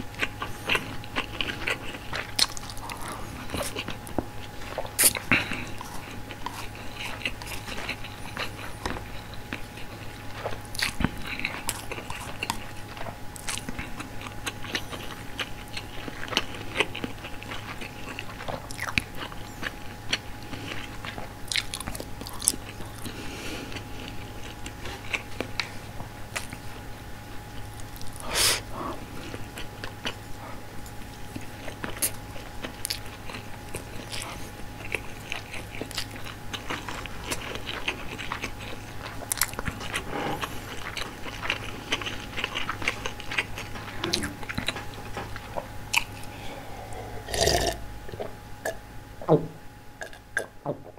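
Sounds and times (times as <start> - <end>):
chewing with wet mouth smacks: 0.0 - 48.8
faint steady hum: 0.0 - 50.9.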